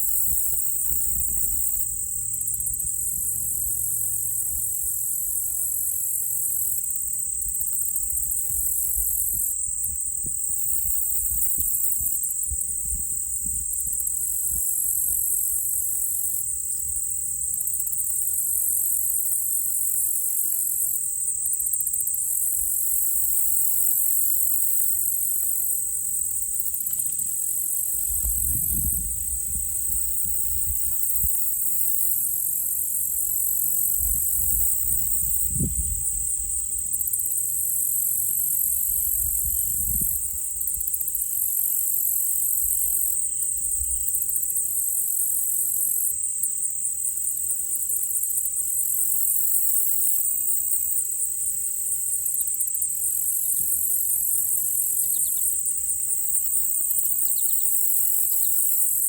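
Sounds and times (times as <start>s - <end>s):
insects shrilling: 0.0s - 59.0s.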